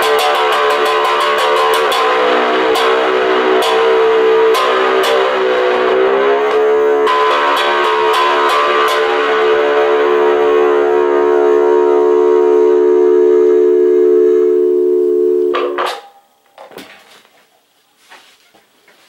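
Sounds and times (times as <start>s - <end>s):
amplified one-string bass note: 0.0s - 15.8s.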